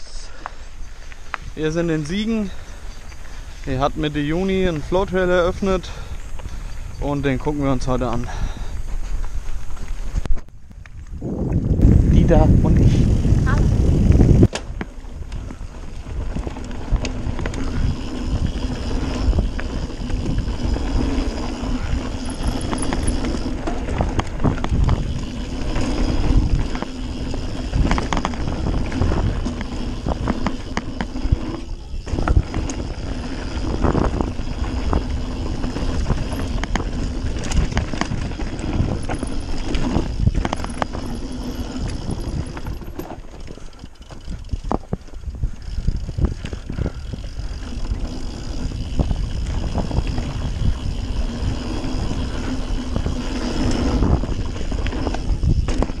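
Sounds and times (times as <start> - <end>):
bike tyres rumbling on dirt: 0.0 - 56.0
bike rattling over bumps: 0.3 - 56.0
wind on microphone: 1.4 - 56.0.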